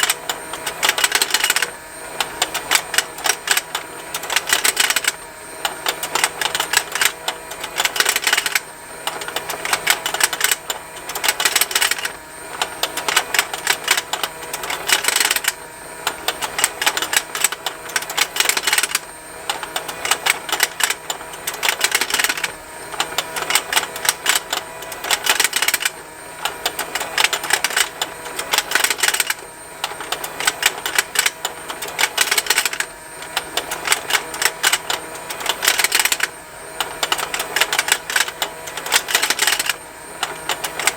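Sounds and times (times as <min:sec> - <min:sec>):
faint motor hum: 0:00.0 - 0:40.9
plastic toy gears ticking: 0:00.0 - 0:40.9.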